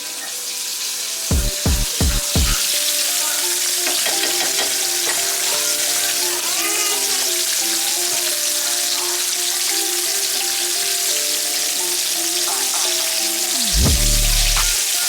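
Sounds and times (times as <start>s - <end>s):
chicken sizzling in grease: 0.0s - 15.0s
slow melodic music: 1.0s - 15.0s.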